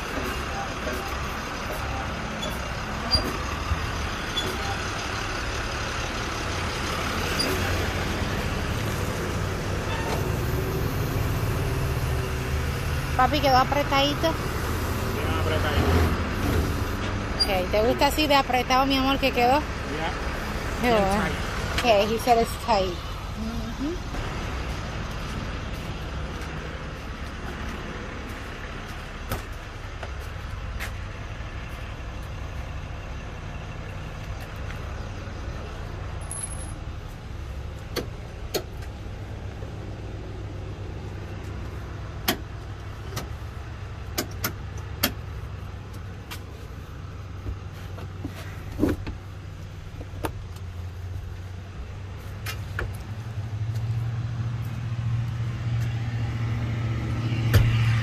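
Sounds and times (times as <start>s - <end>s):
vehicle engine idling: 0.0s - 57.8s.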